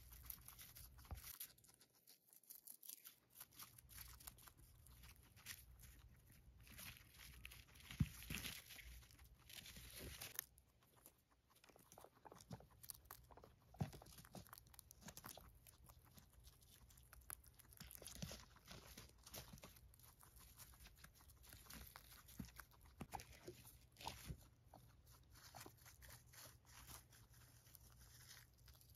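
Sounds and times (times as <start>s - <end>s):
guinea pigs crunching hay: 0.0s - 28.9s.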